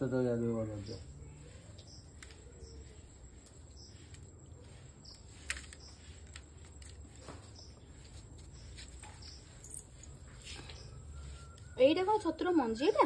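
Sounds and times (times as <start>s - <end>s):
high bird chirps: 0.8s - 6.2s, 7.1s - 13.0s.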